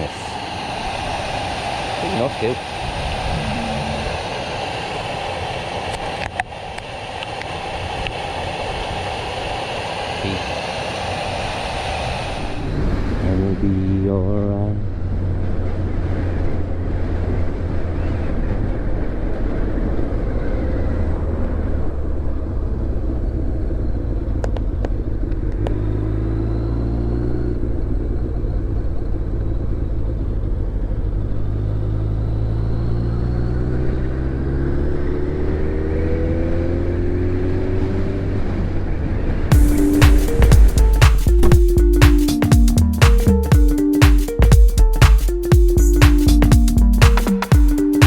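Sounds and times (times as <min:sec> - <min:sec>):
wind and road noise: 0:00.0 - 0:39.5.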